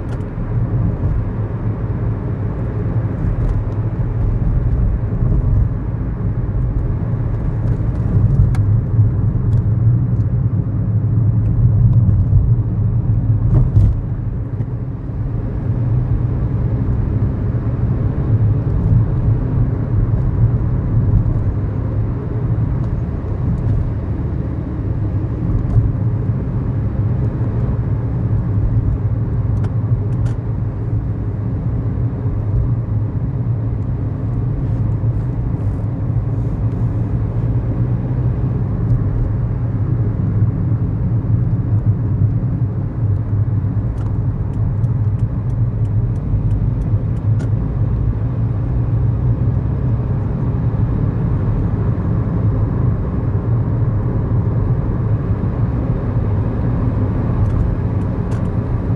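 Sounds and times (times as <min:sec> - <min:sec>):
car engine and road rumble: 0:00.0 - 0:58.9.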